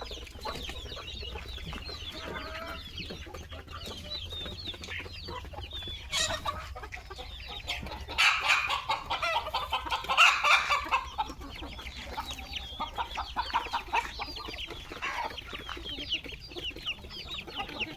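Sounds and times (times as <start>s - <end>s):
chickens clucking: 0.0s - 17.9s.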